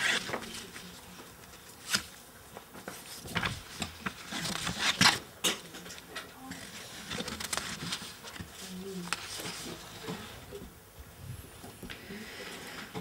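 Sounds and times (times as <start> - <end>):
paper pages rustling: 0.0 - 10.7.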